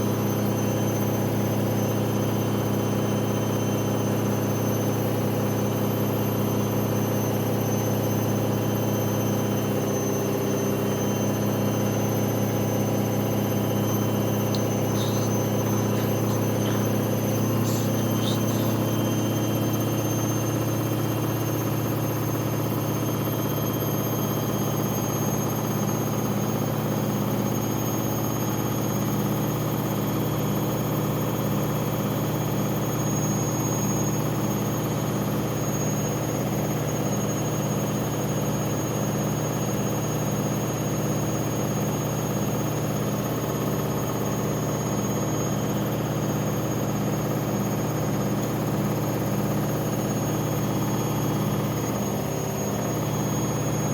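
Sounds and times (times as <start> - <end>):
washing machine spinning hum: 0.0 - 53.9.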